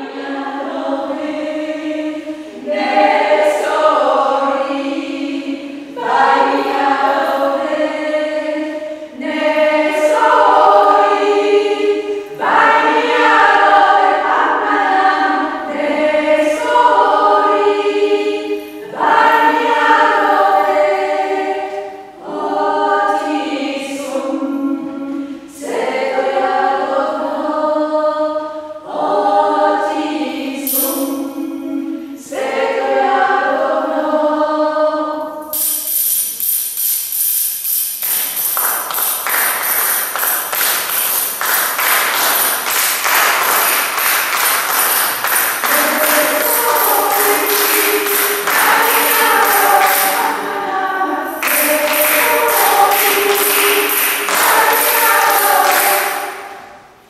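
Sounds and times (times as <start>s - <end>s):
women singing a cappella: 0.0s - 35.6s, 38.6s - 56.9s.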